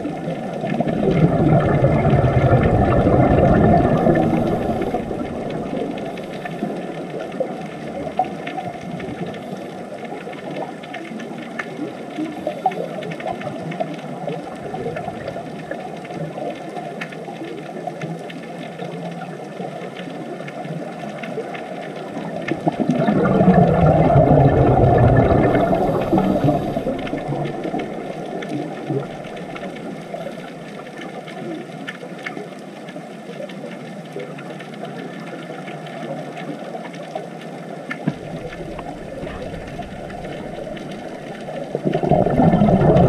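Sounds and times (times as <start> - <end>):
muffled underwater water rush: 0.0 - 43.0.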